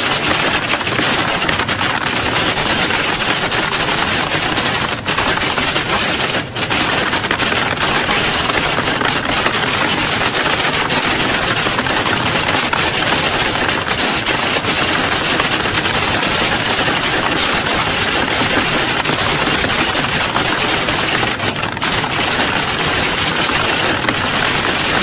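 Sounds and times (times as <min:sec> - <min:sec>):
computer keyboards typing: 0:00.0 - 0:25.0.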